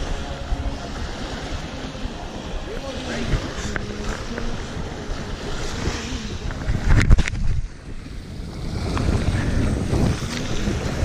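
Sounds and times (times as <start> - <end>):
small waves lapping on shore: 0.0 - 11.0
wind buffeting microphone: 0.0 - 11.0.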